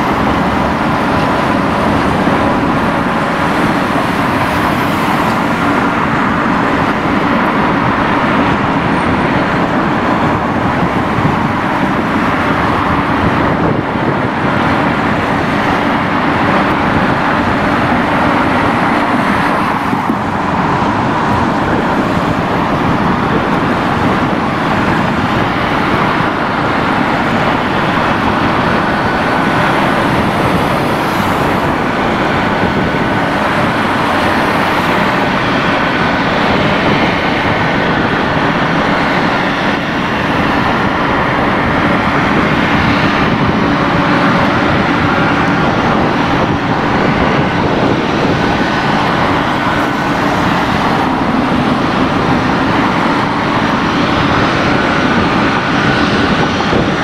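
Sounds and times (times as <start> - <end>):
traffic roar: 0.0 - 57.0.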